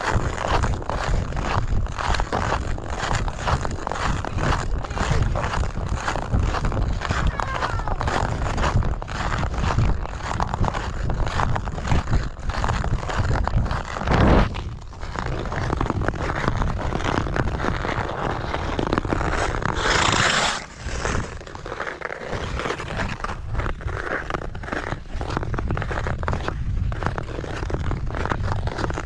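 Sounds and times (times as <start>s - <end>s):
ice skates scraping on ice: 0.0s - 29.0s.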